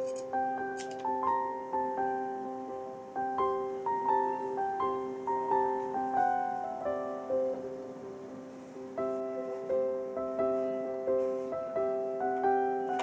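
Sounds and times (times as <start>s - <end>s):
gentle solo piano music: 0.0s - 13.0s.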